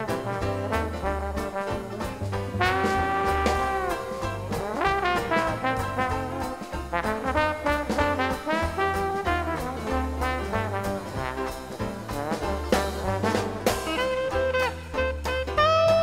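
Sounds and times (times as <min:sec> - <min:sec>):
jazz music with brass horns: 0:00.0 - 0:16.0.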